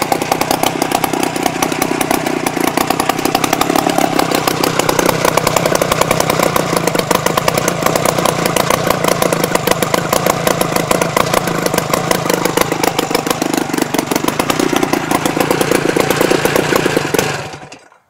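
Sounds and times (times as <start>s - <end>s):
snowmobile engine fast idle: 0.0s - 17.9s.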